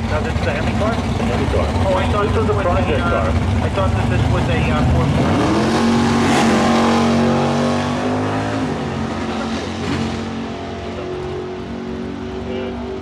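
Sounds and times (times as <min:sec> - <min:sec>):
drag car engine accelerating: 0:00.0 - 0:13.0.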